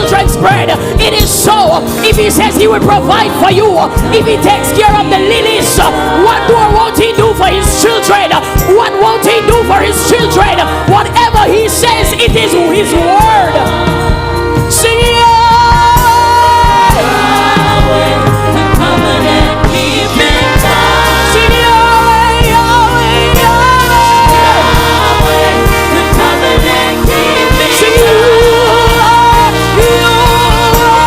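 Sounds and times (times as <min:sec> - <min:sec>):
gospel choir with full band: 0:00.0 - 0:31.0.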